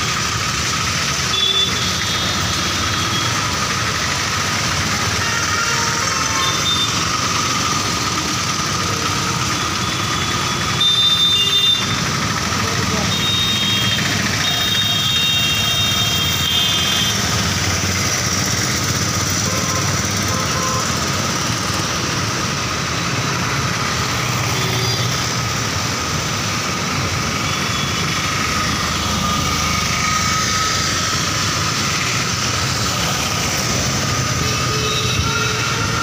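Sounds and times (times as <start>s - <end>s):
traffic on a wet road: 0.0s - 36.0s.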